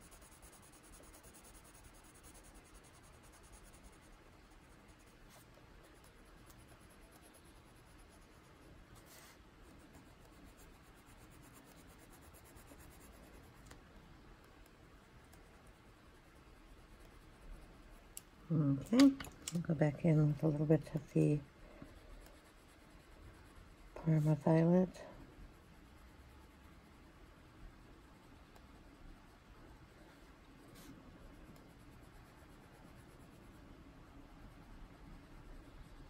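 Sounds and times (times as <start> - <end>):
colored pencil scratching on paper: 0.0 - 13.8, 14.4 - 36.0.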